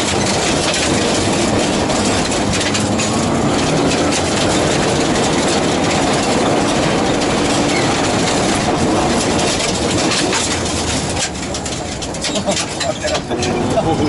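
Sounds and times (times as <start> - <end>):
car engine running hard: 0.0 - 14.0
tyres on gravel: 0.0 - 14.0.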